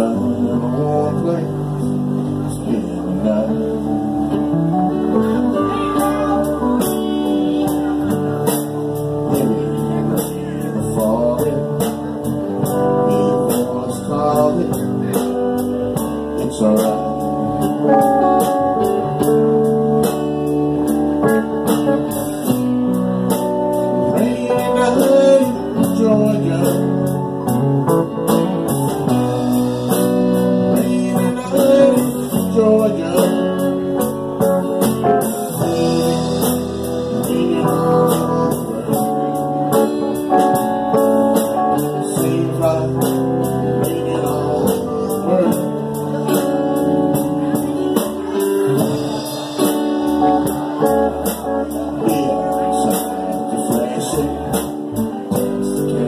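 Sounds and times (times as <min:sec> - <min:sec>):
live band playing soul ballad: 0:00.0 - 0:56.0
man singing: 0:00.0 - 0:56.0.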